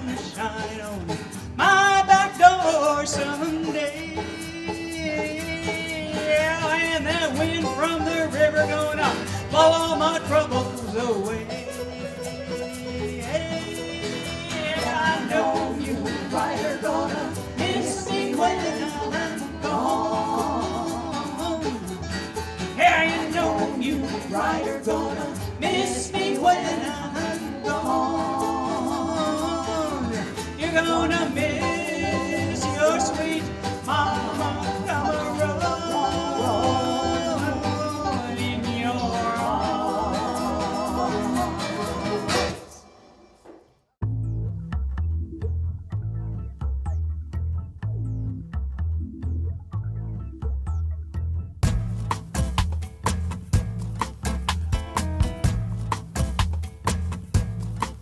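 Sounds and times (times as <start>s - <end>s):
bluegrass band playing: 0.0s - 42.9s, 51.6s - 58.0s.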